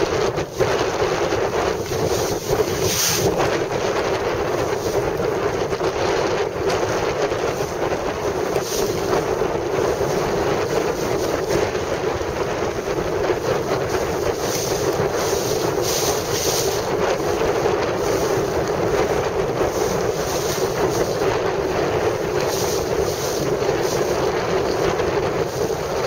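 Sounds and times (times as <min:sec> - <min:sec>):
choppy water washing: 0:00.0 - 0:26.0
wind buffeting microphone: 0:00.0 - 0:26.0.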